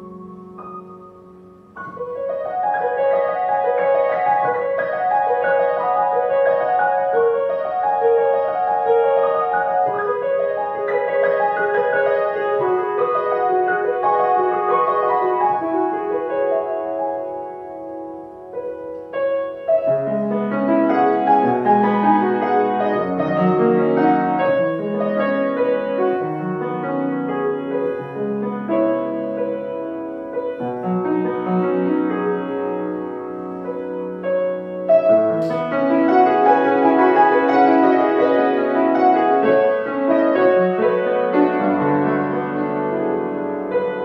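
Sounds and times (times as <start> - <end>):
solo piano piece: 0.0 - 44.0.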